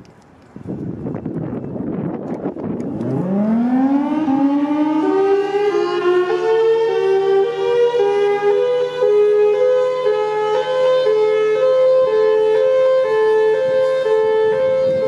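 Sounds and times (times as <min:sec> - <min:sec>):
civil defense siren wailing: 0:02.5 - 0:15.0.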